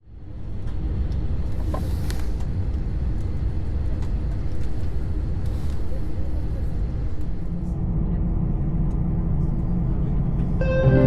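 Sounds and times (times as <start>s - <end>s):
airliner cabin engine rumble: 0.1s - 11.0s.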